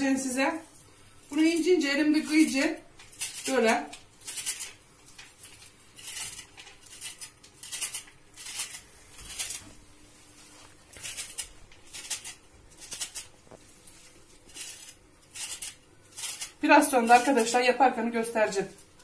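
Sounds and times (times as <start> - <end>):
knife slicing parsley: 1.3 - 9.7, 10.5 - 17.7.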